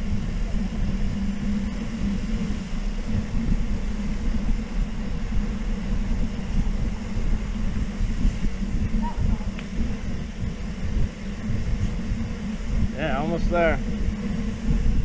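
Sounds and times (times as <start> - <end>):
bike tyres rolling: 0.0 - 15.0
wind buffeting microphone: 0.0 - 15.0.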